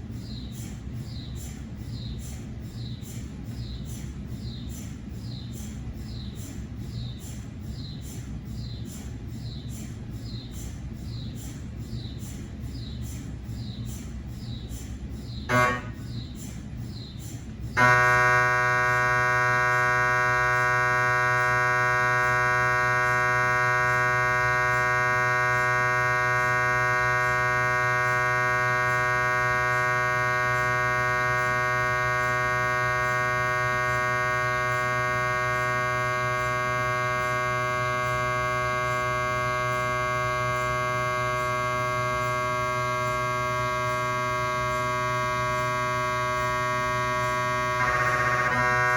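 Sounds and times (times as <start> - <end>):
chirping ticks: 0.0 - 18.2, 18.9 - 48.9
mri scanner electronic buzz: 0.0 - 48.9.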